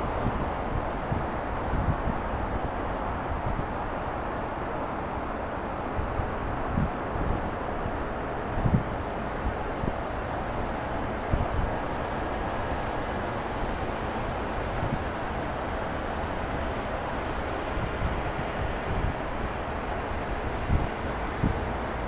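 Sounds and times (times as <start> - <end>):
wind buffeting microphone: 0.0 - 4.0, 5.8 - 22.0.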